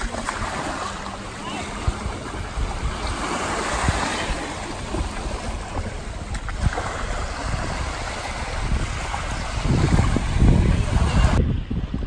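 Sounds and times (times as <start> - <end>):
small waves on sandy shore: 0.0 - 12.0
wind on microphone: 0.0 - 12.0.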